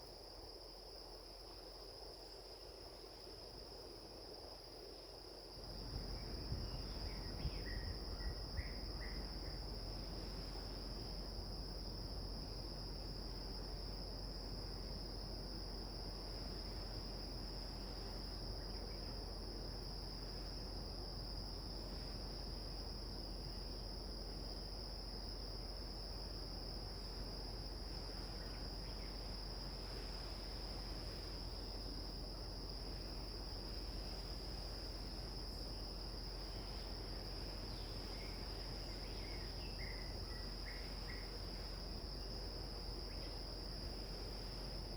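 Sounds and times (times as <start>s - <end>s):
crickets trilling: 0.0s - 44.9s
faint low hiss: 0.0s - 44.9s.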